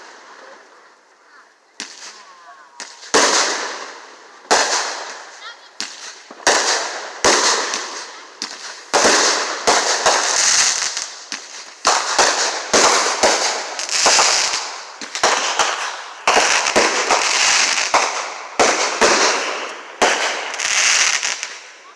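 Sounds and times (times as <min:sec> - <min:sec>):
fireworks banging: 0:00.0 - 0:21.9
fireworks crackling hiss: 0:00.0 - 0:21.9.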